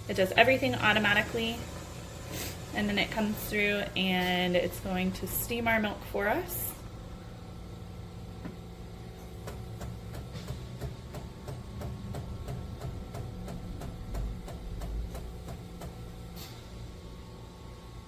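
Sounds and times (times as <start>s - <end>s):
espresso machine pump humming: 0.0s - 18.0s.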